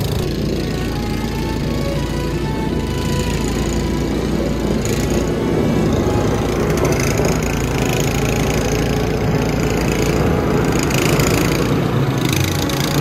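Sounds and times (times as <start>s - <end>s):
snow blower running: 0.0s - 13.0s.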